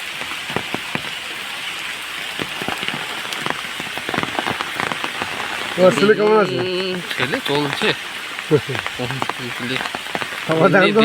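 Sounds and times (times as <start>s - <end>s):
heavy raindrops striking close: 0.0s - 11.0s
steady rain: 0.0s - 11.0s.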